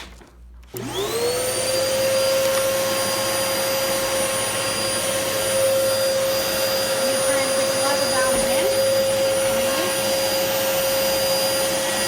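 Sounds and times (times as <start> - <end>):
vacuum cleaner motor whining: 0.7 - 12.0.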